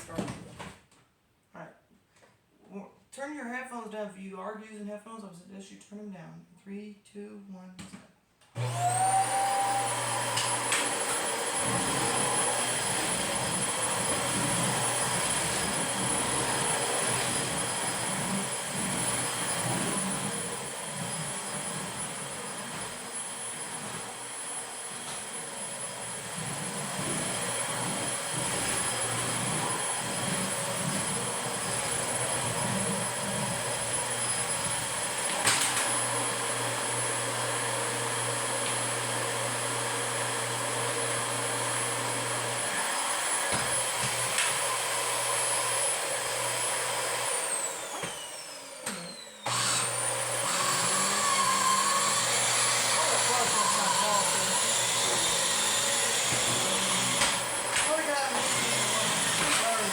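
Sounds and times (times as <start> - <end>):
vacuum cleaner motor whining: 8.6 - 59.9.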